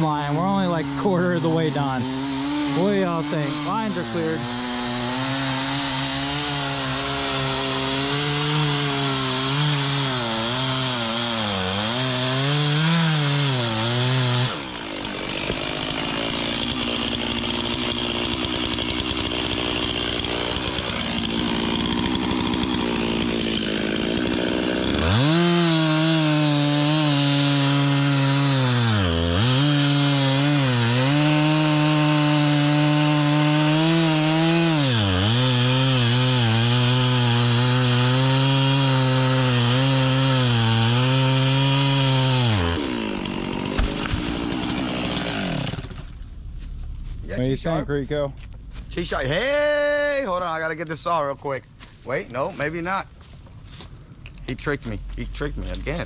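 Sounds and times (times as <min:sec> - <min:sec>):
chainsaw cutting wood: 0:00.0 - 0:47.8, 0:51.8 - 0:56.0.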